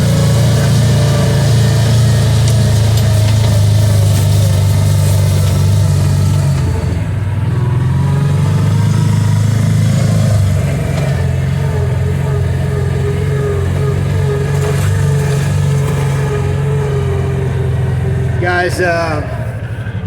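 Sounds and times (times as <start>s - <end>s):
utility vehicle engine driving: 0.0s - 20.0s.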